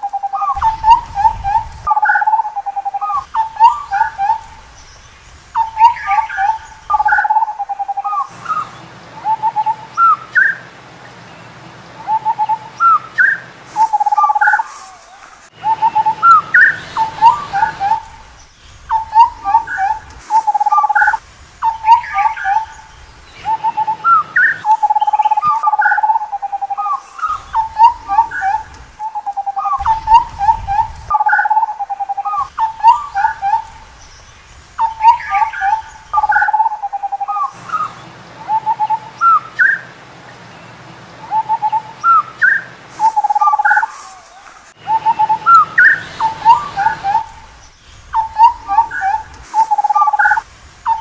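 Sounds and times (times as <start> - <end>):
babbler fluty whistled calls: 0.0 - 10.7, 12.0 - 39.9, 41.3 - 51.0.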